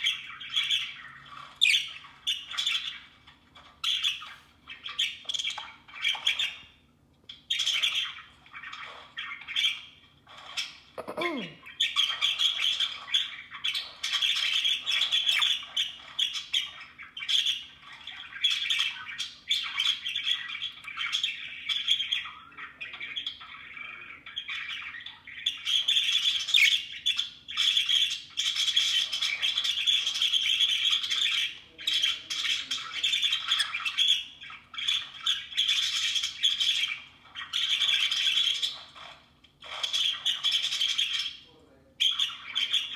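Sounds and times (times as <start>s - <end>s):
budgerigars chattering and squawking: 0.0s - 3.1s, 7.5s - 42.9s.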